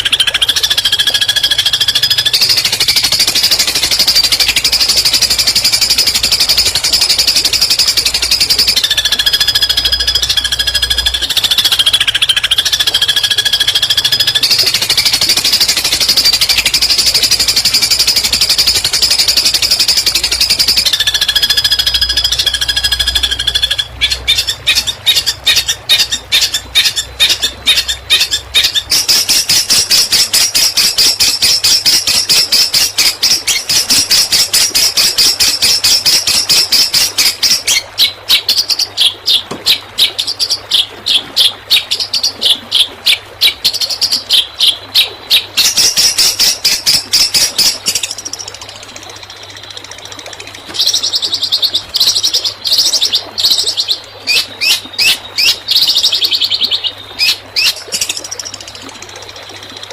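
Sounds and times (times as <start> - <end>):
songbird fast trill: 0.0 - 48.5.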